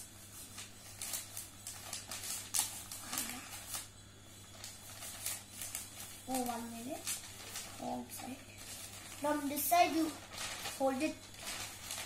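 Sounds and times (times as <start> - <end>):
newspaper crackling and rustling: 0.0 - 12.0.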